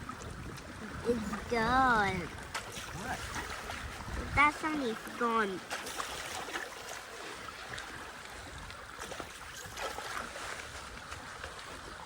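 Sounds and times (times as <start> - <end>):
river water rushing and trickling: 0.0 - 12.0.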